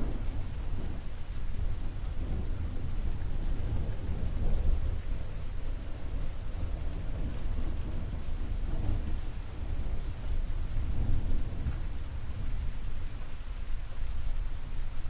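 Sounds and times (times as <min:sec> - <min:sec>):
deep low rumble: 0:00.0 - 0:14.6
steady rain: 0:00.0 - 0:15.0.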